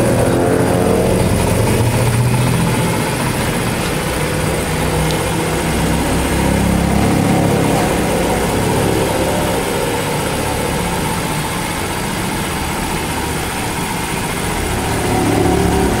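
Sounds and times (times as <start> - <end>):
minibike engine idling: 0.0 - 16.0.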